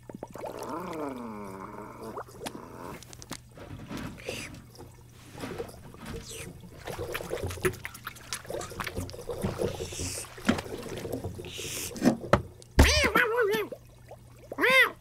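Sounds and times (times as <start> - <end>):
cartoon water splashing: 0.0 - 3.1, 5.5 - 15.0.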